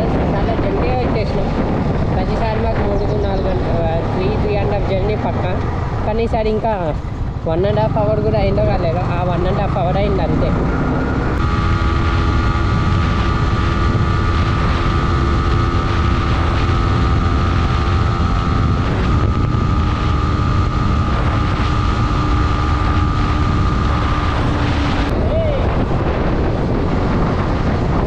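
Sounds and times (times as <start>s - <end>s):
motorcycle engine running: 0.0s - 28.0s
wind rush on microphone: 0.0s - 28.0s.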